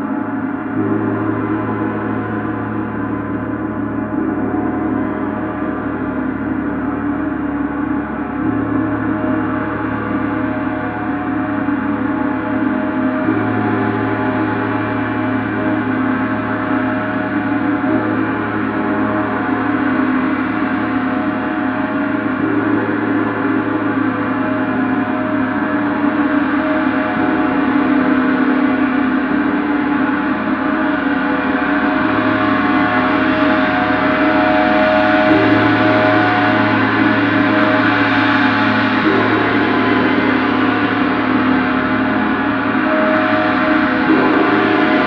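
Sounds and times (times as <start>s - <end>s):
gong sustained tones: 0.0s - 45.0s.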